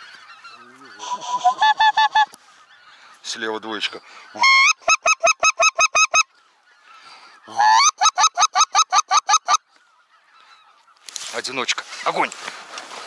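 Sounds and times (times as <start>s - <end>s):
goose honking: 0.0s - 11.0s.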